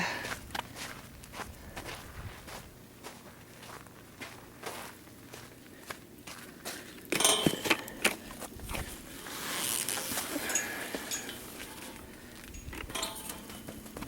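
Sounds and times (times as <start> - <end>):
hoof knocks and steps: 0.5 - 14.0.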